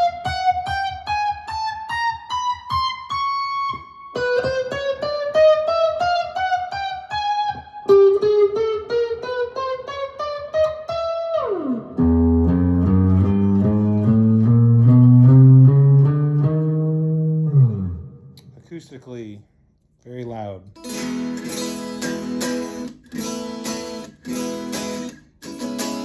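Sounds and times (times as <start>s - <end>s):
guitar slide: 0.2s - 18.5s, 20.8s - 26.0s.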